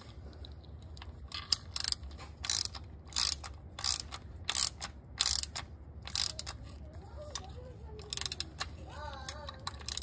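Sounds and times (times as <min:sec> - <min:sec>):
socket ratchet clicking: 0:01.3 - 0:10.0.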